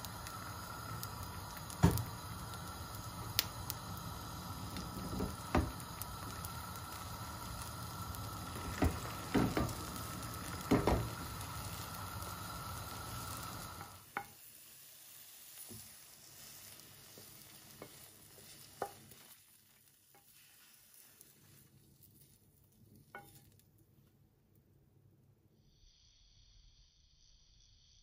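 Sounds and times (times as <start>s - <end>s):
sizzling hiss: 0.0s - 23.6s, 25.6s - 28.0s.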